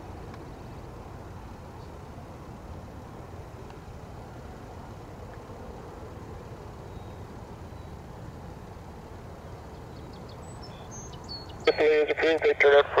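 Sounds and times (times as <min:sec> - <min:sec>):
distant turboprop engines droning: 0:00.0 - 0:13.0.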